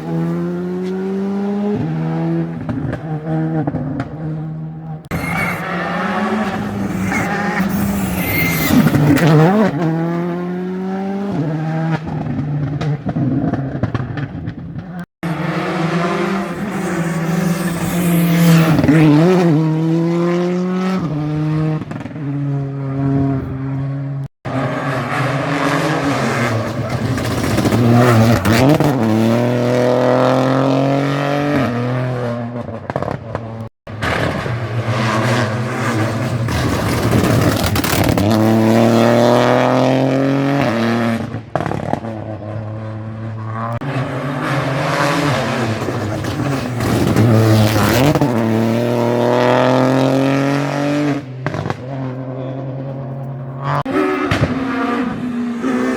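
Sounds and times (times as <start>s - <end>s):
rally car engines at full throttle: 0.0s - 55.9s.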